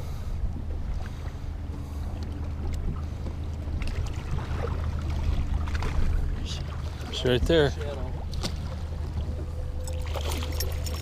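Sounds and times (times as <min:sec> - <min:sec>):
boat motor humming: 0:00.0 - 0:11.0
choppy water: 0:00.0 - 0:11.0
wind: 0:00.0 - 0:11.0.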